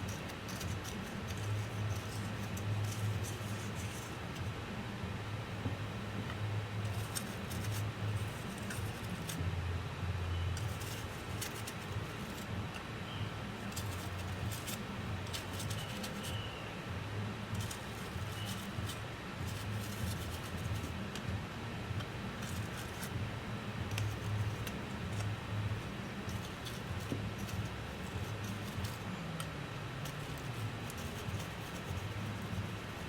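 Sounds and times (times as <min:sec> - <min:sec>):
tools clicking and scratching: 0:00.0 - 0:04.5, 0:06.8 - 0:09.4, 0:10.6 - 0:12.9, 0:13.6 - 0:16.5, 0:17.6 - 0:21.3, 0:22.0 - 0:33.0
steady low hum: 0:00.0 - 0:33.0.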